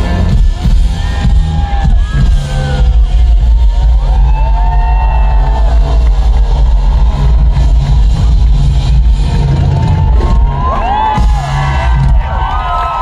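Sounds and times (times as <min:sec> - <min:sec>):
heavy bass beat: 0:00.0 - 0:13.0.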